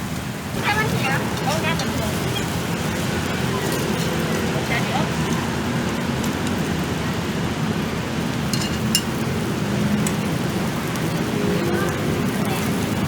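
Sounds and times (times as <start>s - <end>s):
pancakes sizzling in skillets: 0.0s - 13.0s.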